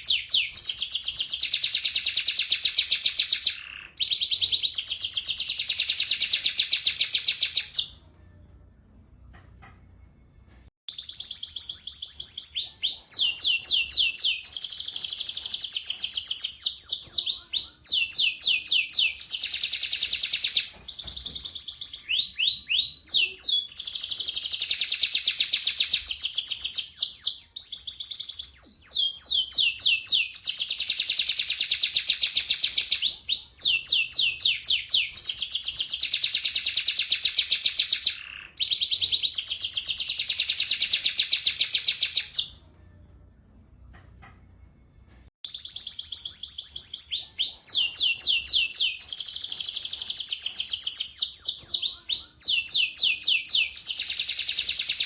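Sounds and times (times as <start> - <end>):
canary singing trills: 0.0 - 8.0, 10.9 - 42.6, 45.4 - 55.0.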